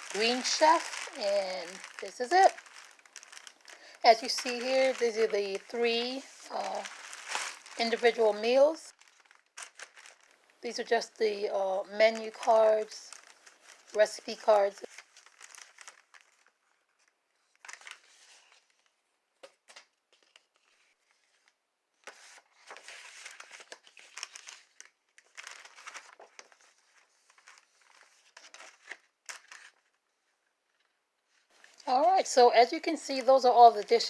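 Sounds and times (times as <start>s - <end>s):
packaging crinkling and rustling: 0.0s - 11.1s, 11.8s - 34.0s.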